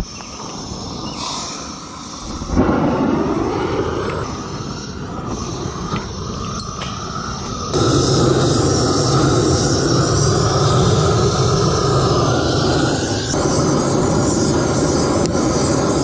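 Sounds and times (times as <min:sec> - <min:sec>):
gas burner igniting whoomp: 0:00.0 - 0:16.0
gas torch hissing: 0:00.0 - 0:16.0
rushing gas flame: 0:00.0 - 0:16.0.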